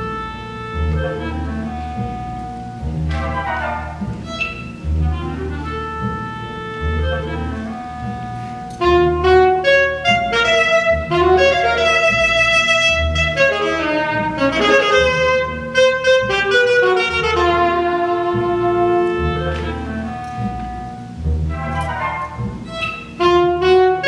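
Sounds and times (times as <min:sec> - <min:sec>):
alto saxophone solo melody: 0:00.0 - 0:24.0
low pulsing notes: 0:00.0 - 0:24.0
orchestral bowed strings: 0:00.0 - 0:24.0.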